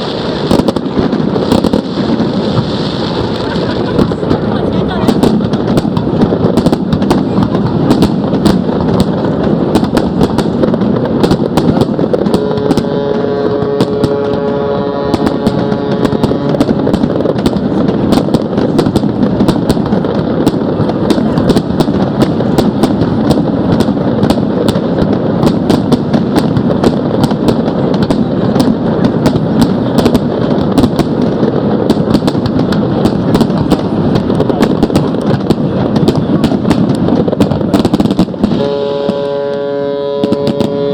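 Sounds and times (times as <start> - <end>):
fireworks crackling: 0.0 - 40.9
rumble of firework bursts: 0.0 - 40.9.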